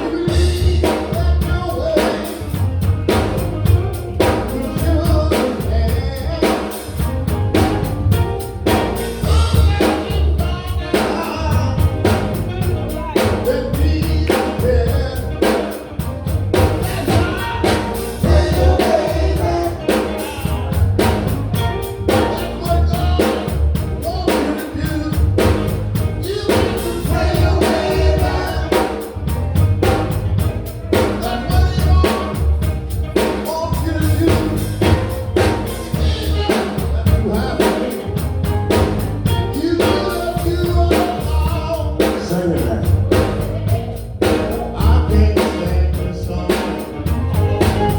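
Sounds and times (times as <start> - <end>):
drum kit beat: 0.0 - 47.9
gospel group singing: 0.0 - 47.9
live band: 0.0 - 47.9.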